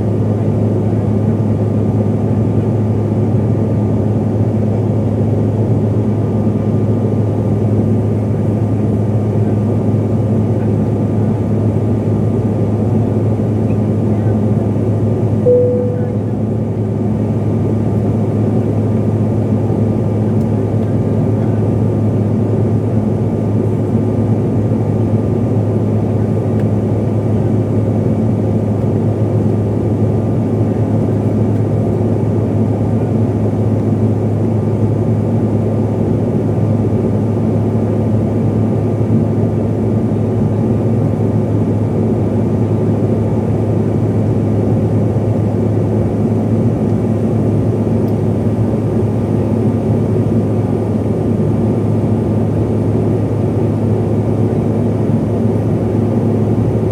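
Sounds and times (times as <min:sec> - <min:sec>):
airplane cabin engine hum: 0:00.0 - 0:56.9.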